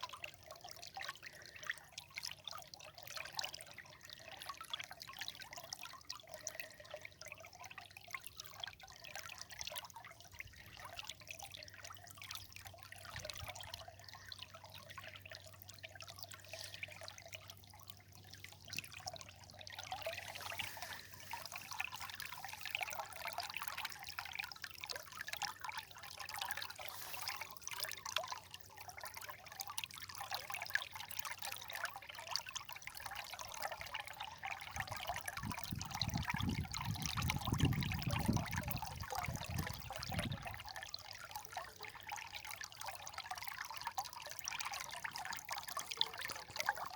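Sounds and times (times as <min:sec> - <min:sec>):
river water trickling: 0:00.0 - 0:46.9.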